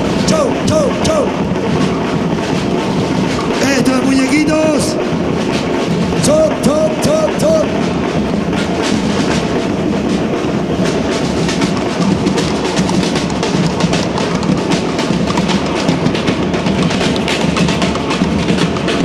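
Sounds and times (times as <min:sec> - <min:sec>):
bass drums: 0:00.0 - 0:19.0
snare drums: 0:00.0 - 0:19.0.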